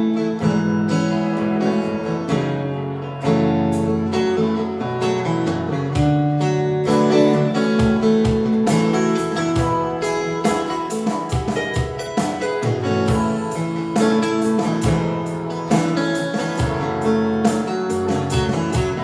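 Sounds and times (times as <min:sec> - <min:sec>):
strummed guitar chords: 0:00.0 - 0:19.0
drum kit beat: 0:03.3 - 0:19.0.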